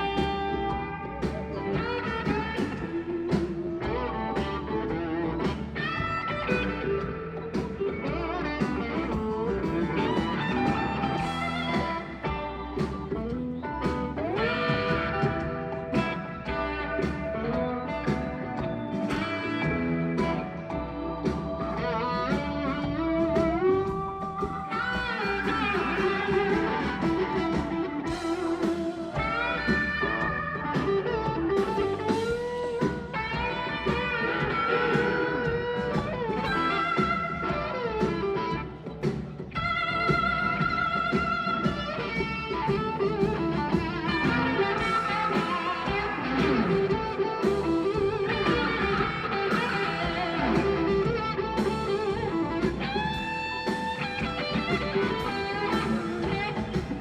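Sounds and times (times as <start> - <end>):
blues-rock band playing: 0.0 - 57.0
electric guitar lines: 0.0 - 57.0.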